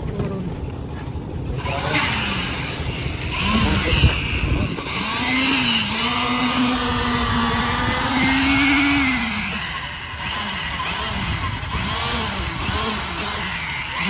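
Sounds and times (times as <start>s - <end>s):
machine motor running: 0.0s - 14.0s.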